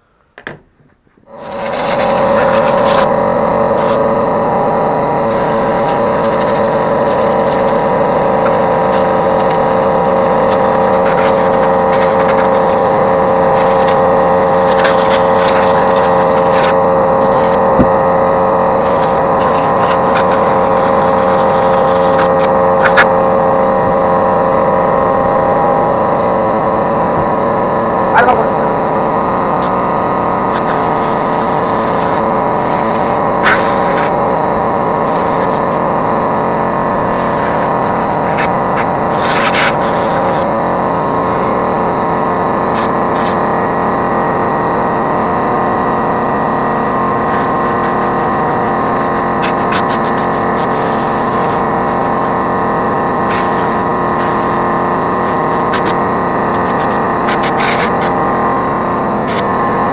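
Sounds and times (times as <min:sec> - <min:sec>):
motor whining: 0:00.0 - 0:59.9.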